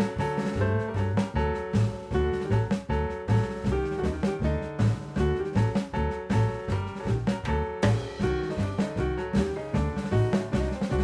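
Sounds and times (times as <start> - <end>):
jazz music with drums and bass: 0.0 - 11.0.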